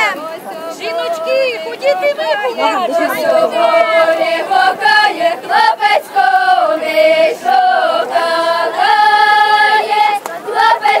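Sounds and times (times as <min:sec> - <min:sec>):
women singing unaccompanied: 0:00.0 - 0:11.0.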